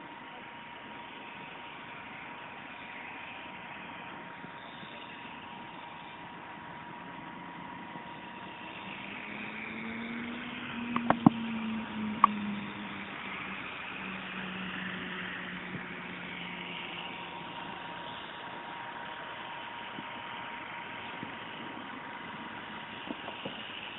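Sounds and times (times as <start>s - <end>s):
model helicopter motor and rotors: 0.0s - 23.9s.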